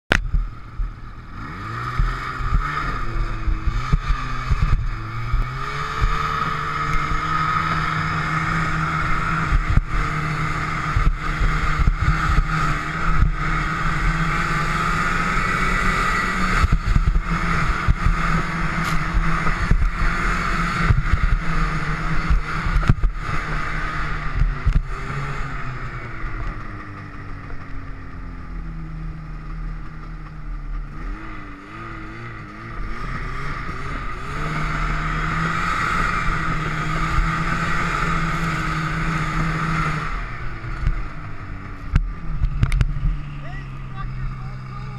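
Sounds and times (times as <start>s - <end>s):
snowmobile engine revving: 0.2s - 44.9s.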